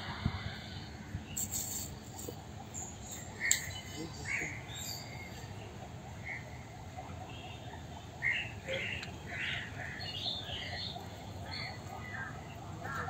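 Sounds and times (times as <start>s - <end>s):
faint low background noise: 0.0s - 13.0s
birds chirping: 0.5s - 13.0s.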